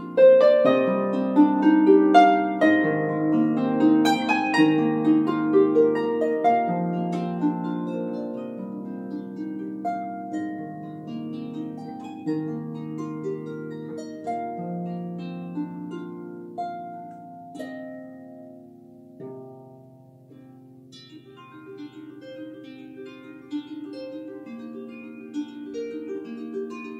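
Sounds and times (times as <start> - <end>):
harp plucked melody: 0.0 - 26.9.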